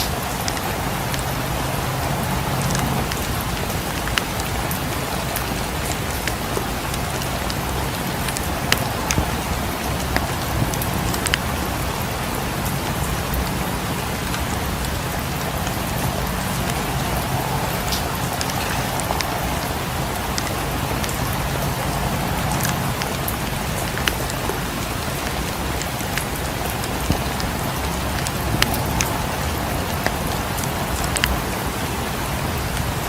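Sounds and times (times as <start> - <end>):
fireplace crackling: 0.0 - 31.6
steady rain: 0.0 - 33.0.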